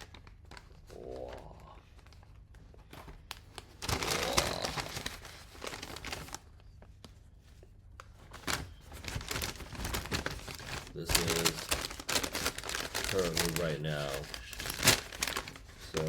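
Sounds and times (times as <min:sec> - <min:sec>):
food packaging crinkling: 0:00.0 - 0:07.1, 0:07.8 - 0:16.0.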